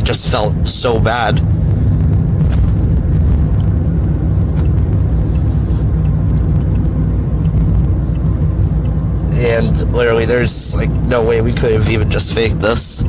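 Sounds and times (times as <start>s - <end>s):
car engine running inside cabin: 0.0s - 13.0s.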